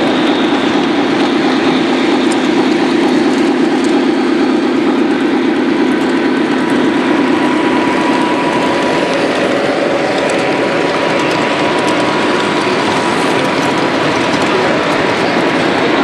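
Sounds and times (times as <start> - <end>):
model train rumbling whir: 0.0 - 16.0.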